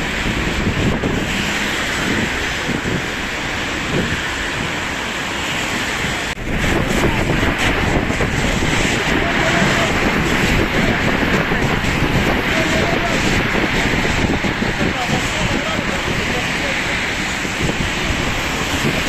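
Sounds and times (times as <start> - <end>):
rain rushing: 0.0 - 19.0
wind buffeting microphone: 0.0 - 19.0.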